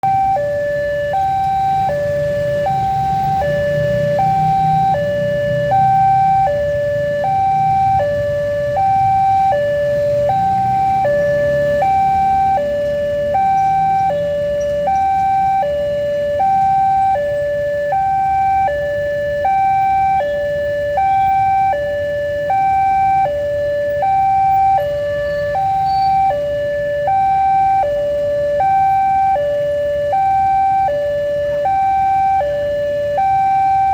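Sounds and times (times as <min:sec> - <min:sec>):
two-tone crossing alarm: 0:00.0 - 0:33.9.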